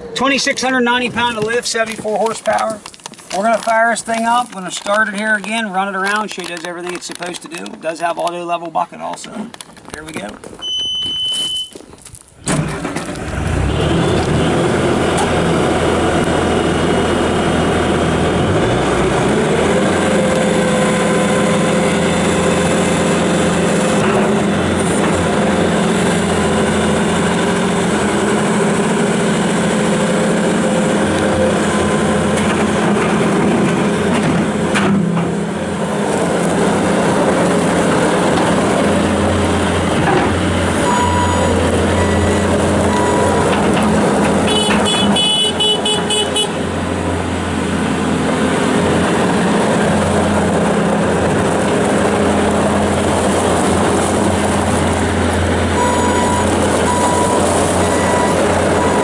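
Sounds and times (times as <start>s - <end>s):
diesel engine starting and running: 0.0s - 10.0s, 10.6s - 59.0s.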